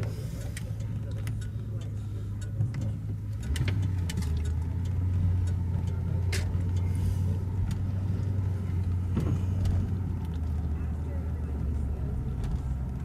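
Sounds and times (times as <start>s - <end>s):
car engine drone inside cabin: 0.0s - 13.0s.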